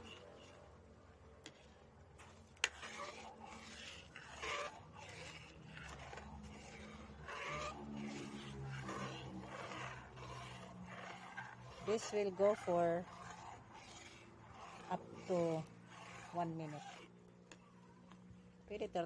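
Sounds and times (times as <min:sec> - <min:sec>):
metal spatula scraping a pan: 0:00.0 - 0:00.6, 0:01.4 - 0:17.1.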